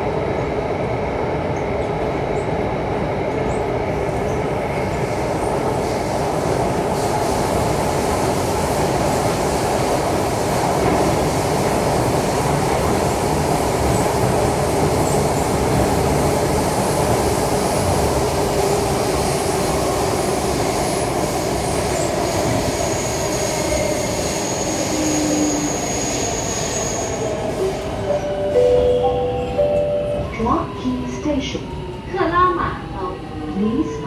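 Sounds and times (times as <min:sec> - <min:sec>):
train wheels rumbling in tunnel: 0:00.0 - 0:34.0.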